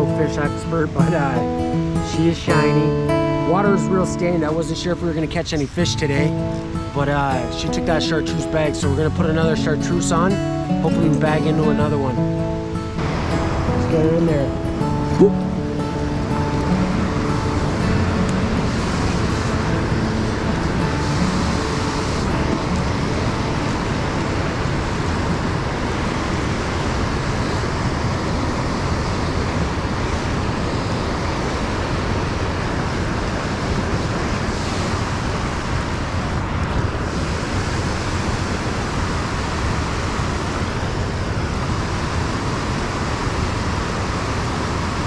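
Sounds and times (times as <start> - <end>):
fast river rushing: 0.0 - 45.0.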